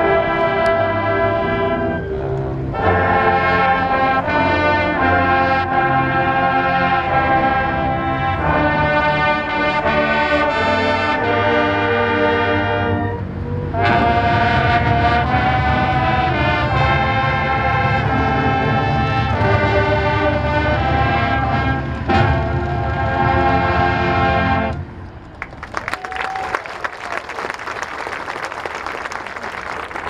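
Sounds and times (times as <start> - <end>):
marching band brass chords: 0.0 - 25.1.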